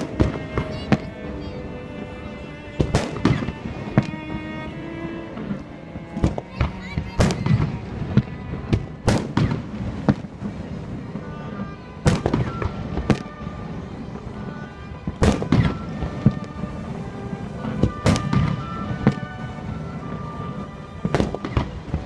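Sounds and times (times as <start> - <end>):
fireworks bursting: 0.0 - 22.0
music playing: 0.0 - 22.0.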